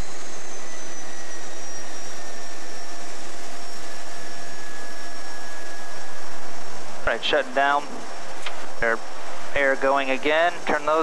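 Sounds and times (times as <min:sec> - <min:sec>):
high turbine whine: 0:00.0 - 0:11.0.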